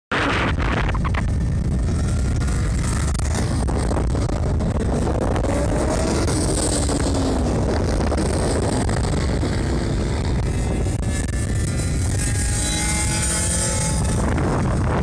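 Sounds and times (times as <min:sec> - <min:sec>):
low rumble: 0:00.1 - 0:15.0
motorcycle passing: 0:00.3 - 0:15.0.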